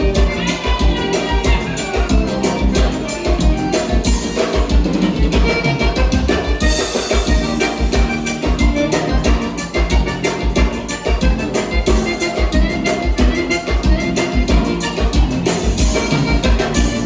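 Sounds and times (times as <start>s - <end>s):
bass drum beat: 0.0s - 17.0s
instrumental dance music band: 0.0s - 17.0s.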